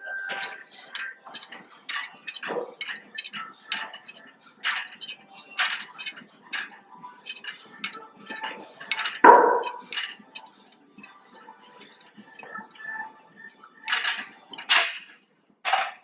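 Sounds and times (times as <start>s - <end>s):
gym background noise: 0.0s - 16.0s
metal weights clanking: 0.3s - 12.6s, 13.8s - 15.1s, 15.7s - 16.0s.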